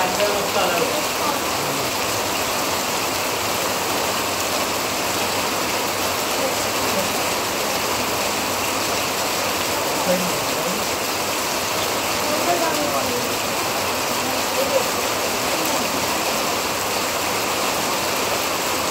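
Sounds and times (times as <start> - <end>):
steady rain: 0.0 - 18.9.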